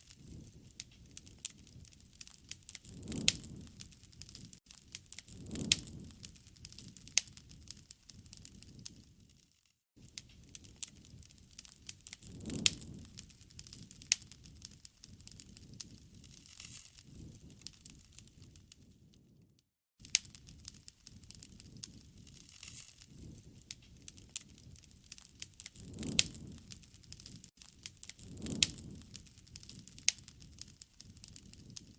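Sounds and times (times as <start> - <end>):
low rushing of flame: 0.0 - 9.2, 10.0 - 19.4, 20.0 - 31.9
campfire crackling and popping: 0.0 - 9.3, 10.0 - 19.2, 20.0 - 31.9.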